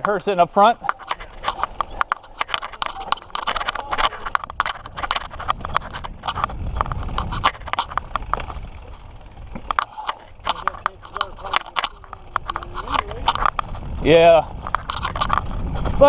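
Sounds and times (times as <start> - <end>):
mountain bike rattling: 0.0 - 16.0.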